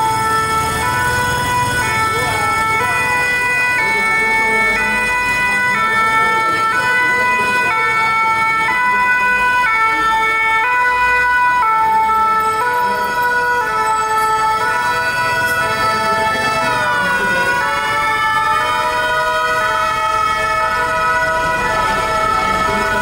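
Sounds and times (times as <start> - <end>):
fire truck two-tone siren: 0.0 - 23.0
second siren: 0.0 - 23.0.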